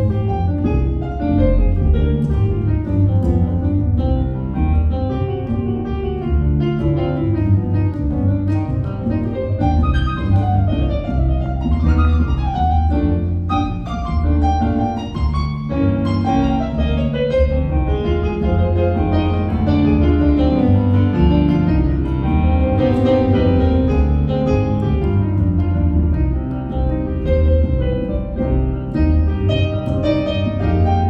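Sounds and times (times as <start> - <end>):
piano: 0.0 - 31.0.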